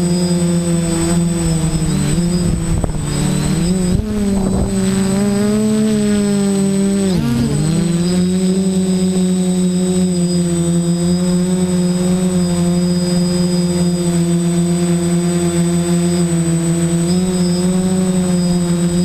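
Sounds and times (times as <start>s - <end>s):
drone propellers droning: 0.0s - 19.0s
thin high whine: 0.0s - 19.0s.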